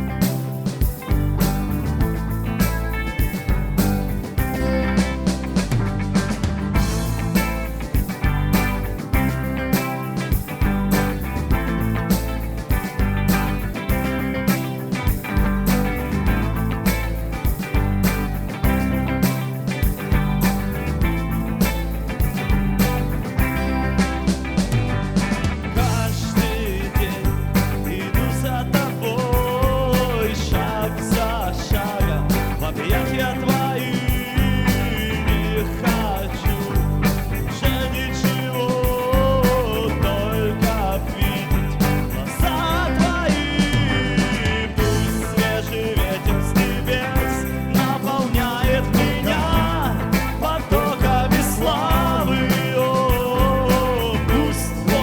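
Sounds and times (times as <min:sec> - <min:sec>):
rock band music: 0:00.0 - 0:55.0.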